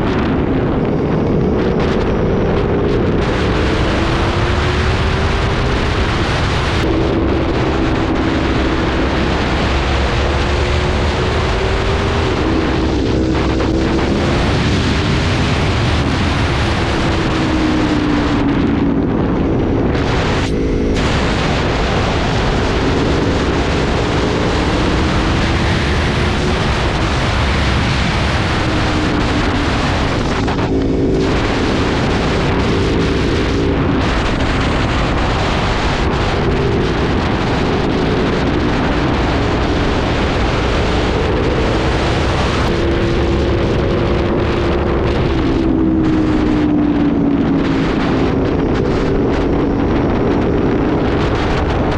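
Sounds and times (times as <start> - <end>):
motorcycle engine revving through gears: 0.0 - 51.9
wind rush on microphone: 0.0 - 51.9.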